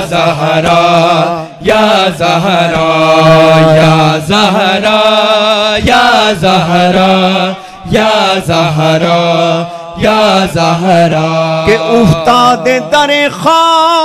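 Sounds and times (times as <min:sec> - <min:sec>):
men's chorus chanting: 0:00.0 - 0:14.0.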